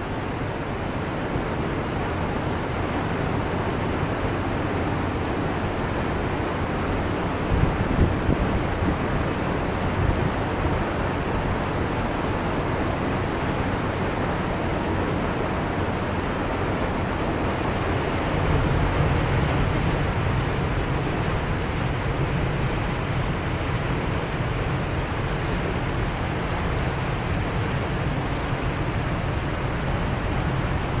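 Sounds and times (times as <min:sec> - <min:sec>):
churning water rushing: 0:00.0 - 0:31.0.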